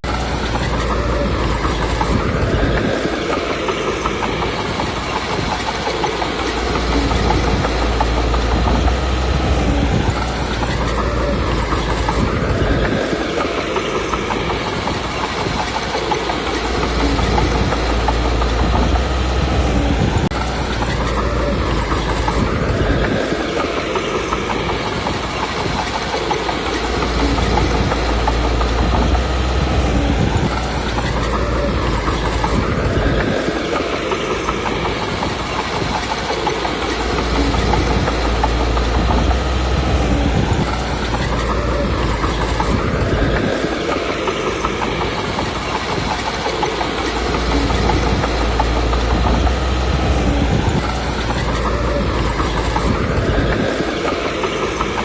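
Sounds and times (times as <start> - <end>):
bulldozer engine working: 0.0 - 55.0.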